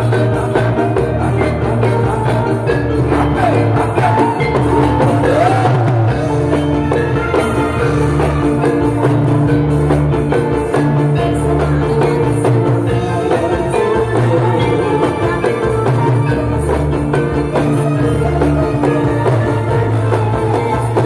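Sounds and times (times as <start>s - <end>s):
hand drum beats: 0.0s - 21.0s.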